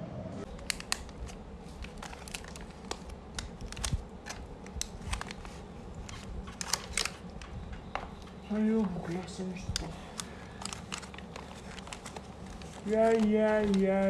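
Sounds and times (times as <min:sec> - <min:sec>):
foil trays crinkling and crackling: 0:00.5 - 0:14.0.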